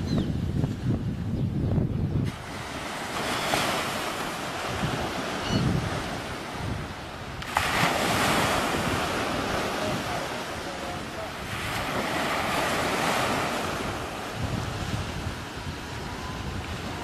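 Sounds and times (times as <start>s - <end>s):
surf breaking on a sandy beach: 0.0s - 17.0s
wind buffeting microphone: 0.0s - 17.0s.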